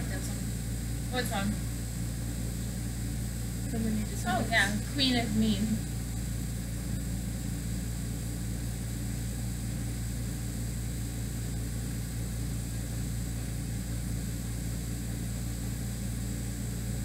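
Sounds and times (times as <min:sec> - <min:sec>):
low droning hum: 0:00.0 - 0:17.0.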